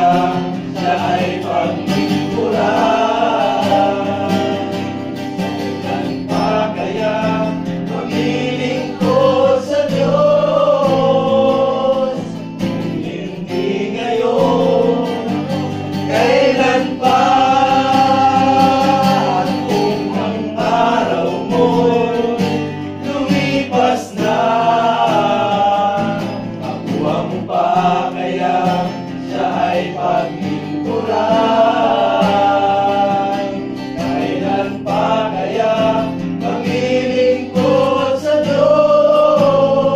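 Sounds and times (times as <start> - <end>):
men singing a worship song: 0.0 - 39.9.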